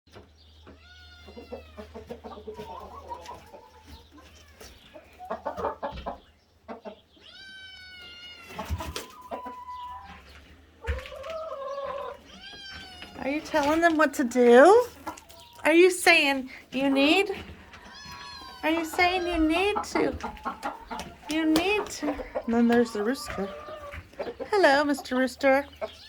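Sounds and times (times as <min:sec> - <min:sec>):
hens clucking: 0:00.1 - 0:26.0.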